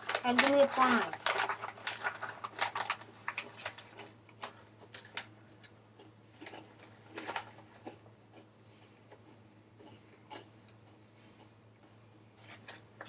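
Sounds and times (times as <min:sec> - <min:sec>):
crisps crunching while chewed: 0:00.0 - 0:13.0.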